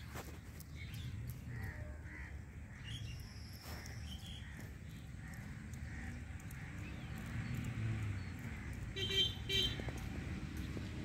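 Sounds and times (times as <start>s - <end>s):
birds calling harshly: 0.0s - 11.0s.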